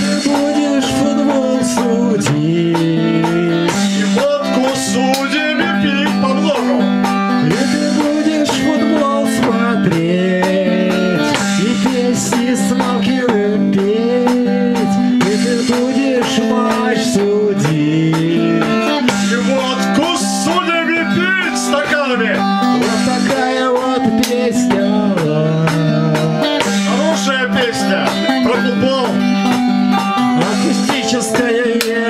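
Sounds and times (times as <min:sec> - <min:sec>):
acoustic guitar strummed chords: 0:00.0 - 0:32.0
sliding guitar melody: 0:00.0 - 0:32.0.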